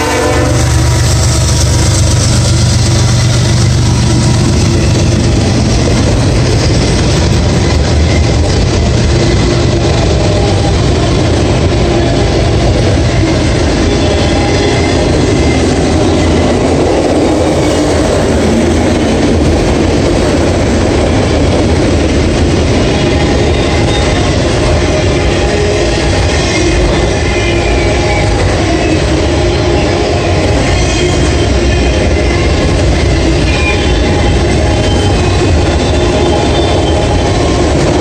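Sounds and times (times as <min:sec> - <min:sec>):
freight train wheels clattering: 0:00.0 - 0:38.0.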